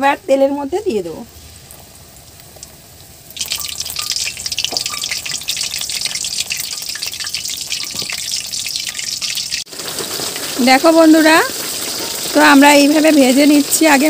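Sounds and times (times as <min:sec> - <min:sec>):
hot oil sizzling and crackling: 0:00.0 - 0:14.0.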